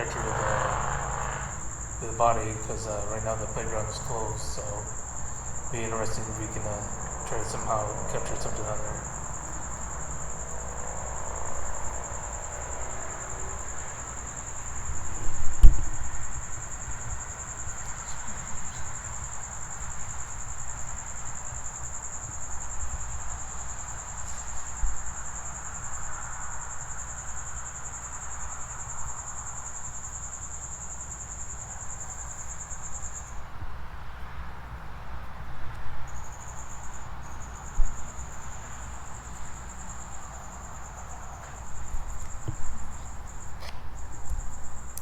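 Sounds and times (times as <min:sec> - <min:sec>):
cricket trilling: 0:00.0 - 0:33.6, 0:36.0 - 0:45.0.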